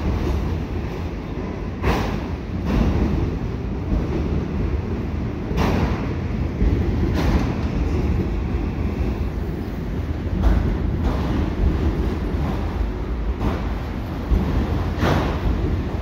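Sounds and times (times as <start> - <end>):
freight cars rumbling over bridge: 0.0 - 16.0
train wheel clatter: 0.0 - 16.0.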